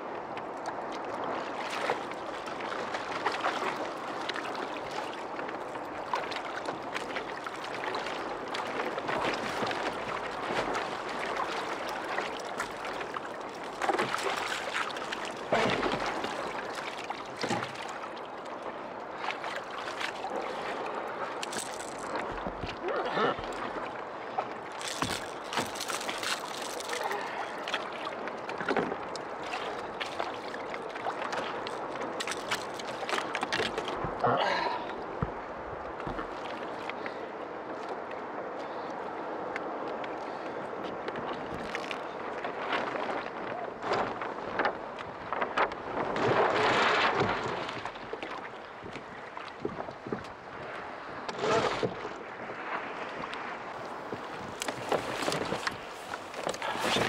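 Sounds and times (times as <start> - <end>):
water slapping against hull: 0.2 - 38.9, 39.5 - 57.0.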